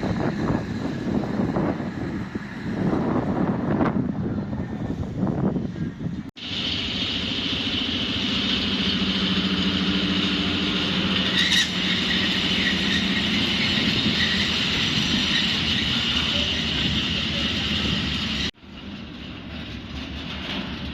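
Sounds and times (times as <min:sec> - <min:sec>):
diesel locomotive engine running: 0:00.0 - 0:20.9
train noise: 0:00.0 - 0:20.9.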